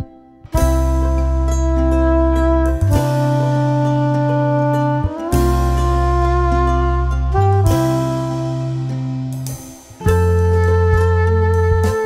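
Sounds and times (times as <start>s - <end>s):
instrumental music with sustained chords: 0.0s - 12.0s.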